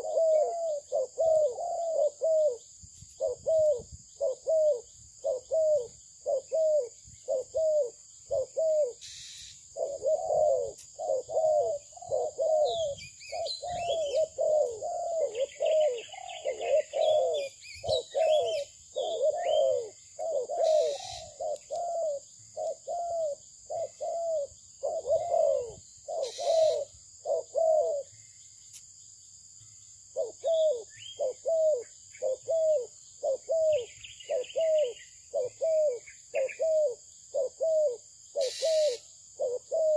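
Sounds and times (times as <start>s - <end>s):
dove cooing: 0.0s - 28.2s, 30.1s - 39.9s
small birds chirping faintly: 0.0s - 39.9s.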